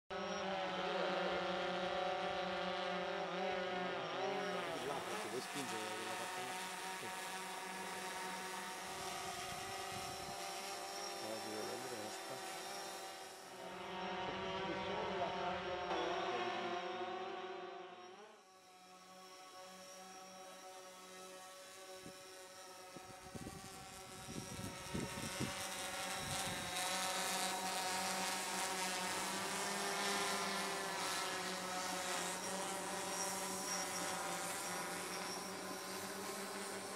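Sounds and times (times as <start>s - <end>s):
drone propellers buzzing: 0.1s - 36.9s.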